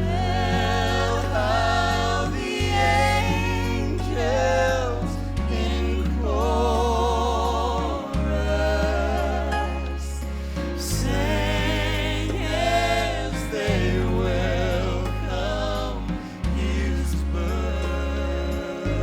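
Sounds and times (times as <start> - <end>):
low bass accompaniment: 0.0 - 19.0
woman singing with vibrato: 0.0 - 19.0.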